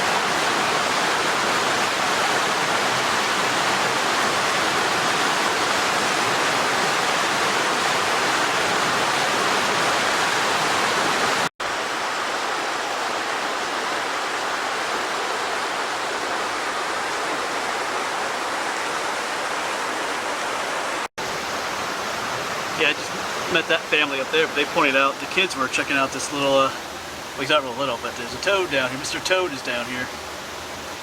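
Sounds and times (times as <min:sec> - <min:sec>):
creek rushing over rapids: 0:00.0 - 0:31.0.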